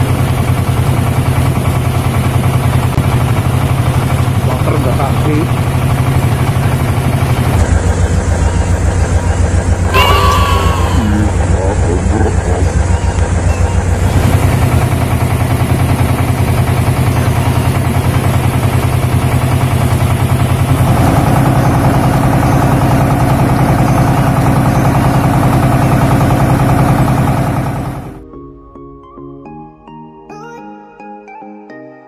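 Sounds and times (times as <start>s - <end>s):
motorboat engine running: 0.0s - 28.3s.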